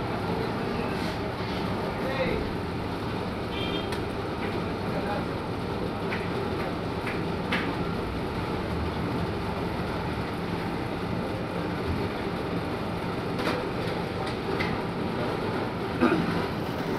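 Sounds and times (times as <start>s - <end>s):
ice cream machine humming: 0.0s - 16.9s
street noise: 0.0s - 16.9s.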